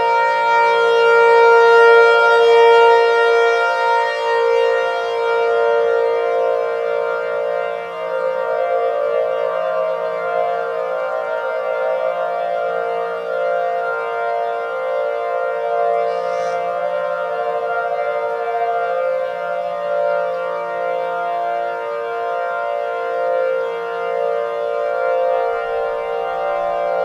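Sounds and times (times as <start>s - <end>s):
layered siren synthesizer chord: 0.0s - 27.0s.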